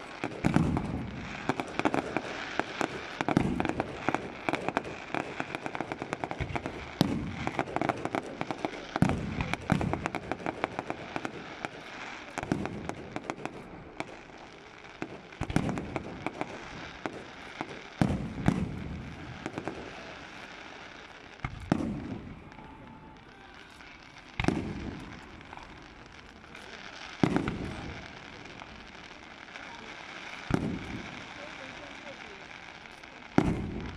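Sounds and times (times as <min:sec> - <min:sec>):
fireworks booming: 0:00.0 - 0:33.9
fireworks crackling: 0:00.0 - 0:33.9.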